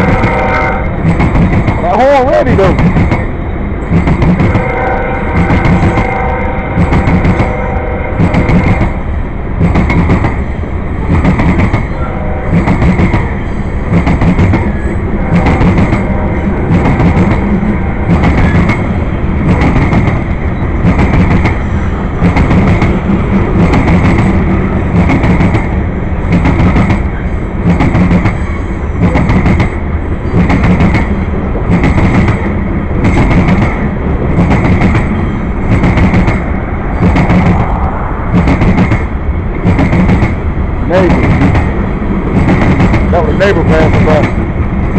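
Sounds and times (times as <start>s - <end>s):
wheels clacking over rail joints: 0.0s - 7.6s, 8.2s - 44.9s
train rumbling past: 0.0s - 44.9s.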